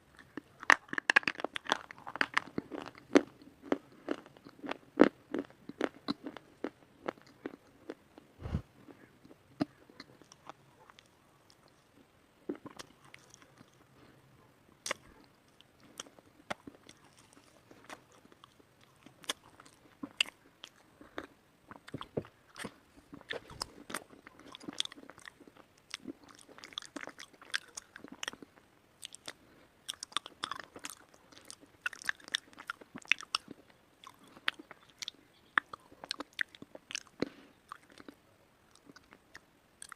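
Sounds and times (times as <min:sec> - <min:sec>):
person chewing crunchy slate: 0:00.2 - 0:11.9, 0:14.8 - 0:39.9.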